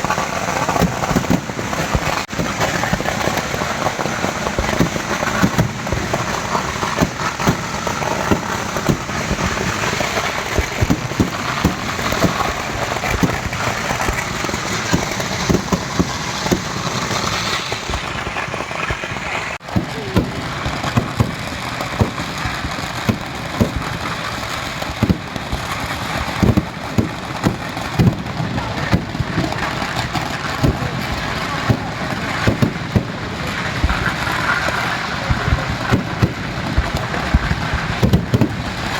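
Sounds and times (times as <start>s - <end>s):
firecracker bangs: 0.0s - 38.9s
firework crackling: 0.0s - 38.9s.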